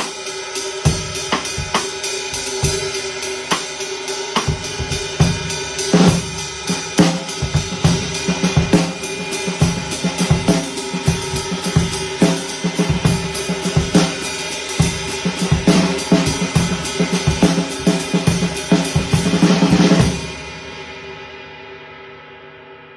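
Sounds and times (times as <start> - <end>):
ride cymbal pattern: 0.0 - 20.5.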